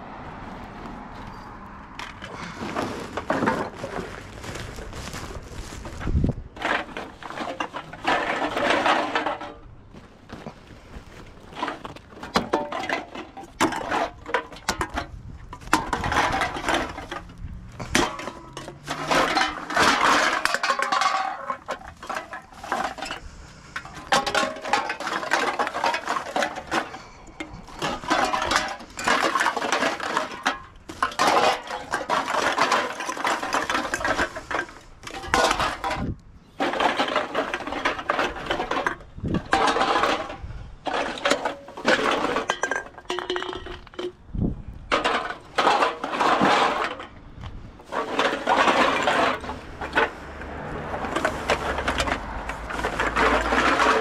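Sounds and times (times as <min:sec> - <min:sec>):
plastic bags rustling: 0:02.1 - 0:44.2, 0:47.7 - 0:54.0
aluminium cans clinking: 0:06.6 - 0:09.6, 0:11.5 - 0:44.2, 0:44.9 - 0:47.2, 0:47.8 - 0:54.0.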